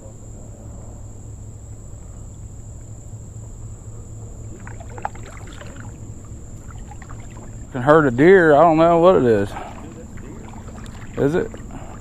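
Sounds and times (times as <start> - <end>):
distant bird calls: 0.0 - 12.0
low steady hum: 0.0 - 12.0.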